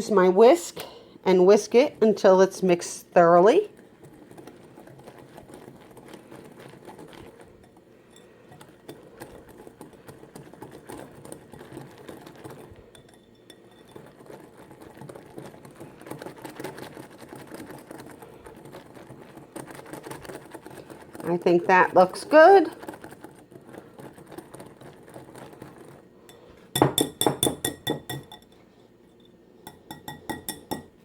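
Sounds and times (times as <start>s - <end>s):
whisk clicking against bowl: 1.7s - 28.6s, 29.7s - 31.0s.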